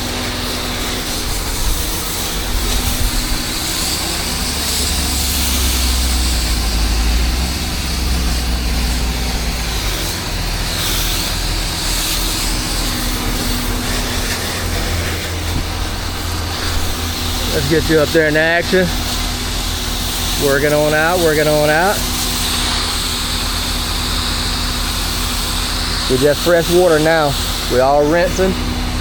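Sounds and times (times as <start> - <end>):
pressure washer engine running: 0.0 - 29.0
water spray hissing: 0.0 - 29.0.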